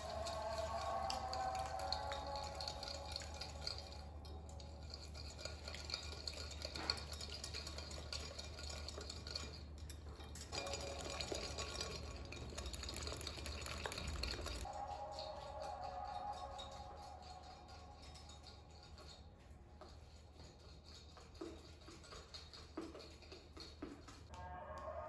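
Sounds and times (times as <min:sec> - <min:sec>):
utensil stirring in a bowl: 0:00.0 - 0:24.3.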